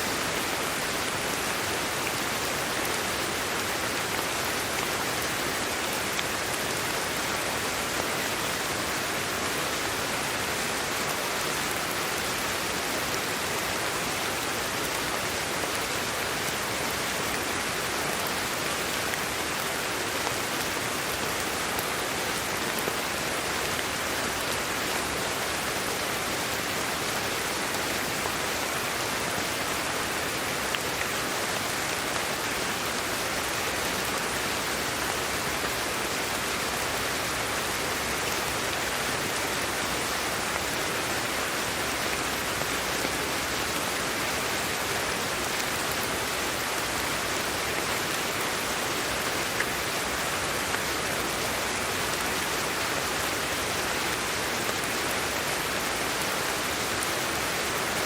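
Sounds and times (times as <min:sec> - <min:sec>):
rain-like hiss: 0:00.0 - 0:58.0.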